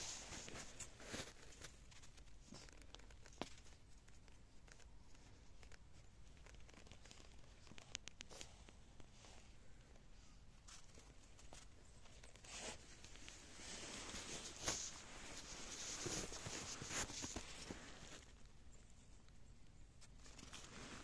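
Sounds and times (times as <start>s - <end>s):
faint rustling: 0.0s - 21.0s.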